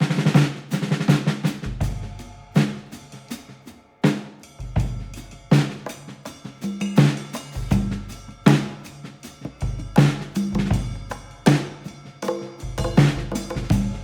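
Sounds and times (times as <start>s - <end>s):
music with drum kit beat: 0.0s - 14.0s.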